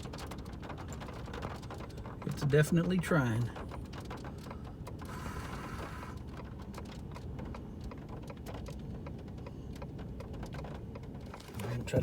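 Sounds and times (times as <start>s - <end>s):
low steady rumble: 0.0s - 12.0s
raindrops tapping on a vehicle: 0.0s - 12.0s.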